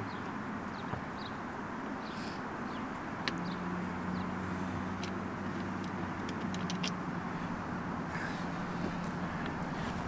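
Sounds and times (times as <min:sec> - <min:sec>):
vehicle engine hum: 0:00.0 - 0:10.0.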